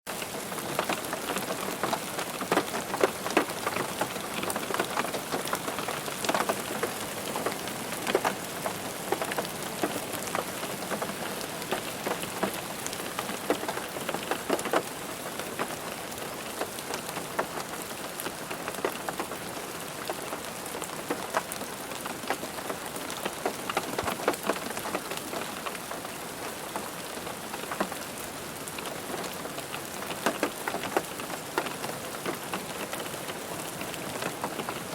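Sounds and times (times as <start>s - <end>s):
rain on a car roof: 0.1s - 34.9s.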